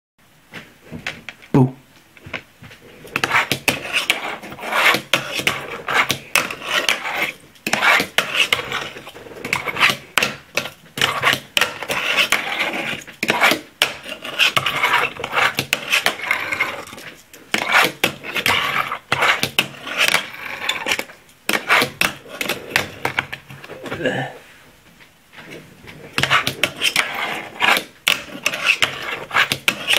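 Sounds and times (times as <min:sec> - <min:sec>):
wheels rolling and scraping: 0:02.4 - 0:24.0, 0:25.3 - 0:29.9.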